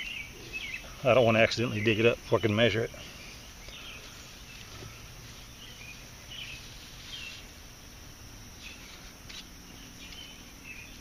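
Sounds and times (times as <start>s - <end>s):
bird chirps: 0.0s - 7.5s, 8.6s - 11.0s
faint outdoor ambience: 0.0s - 11.0s.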